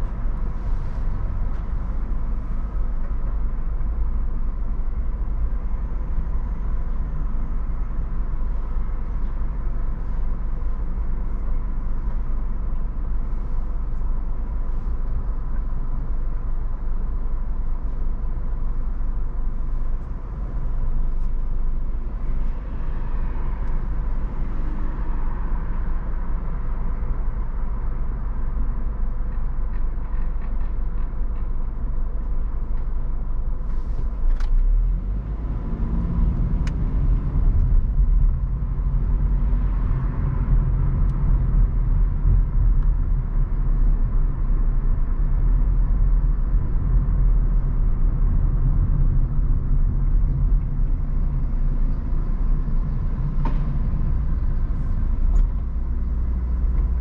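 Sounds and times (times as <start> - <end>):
idling car rumble from inside: 0.0 - 57.0
street traffic: 0.0 - 57.0.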